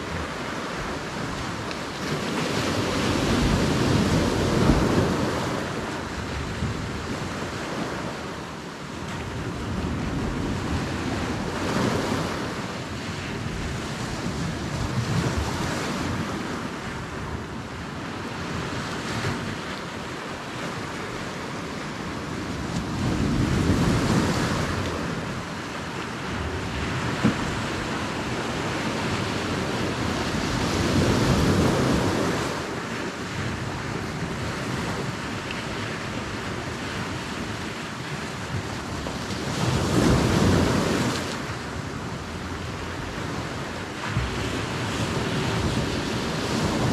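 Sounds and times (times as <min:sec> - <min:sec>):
sea waves: 0:00.0 - 0:46.9
wind buffeting microphone: 0:00.0 - 0:46.9.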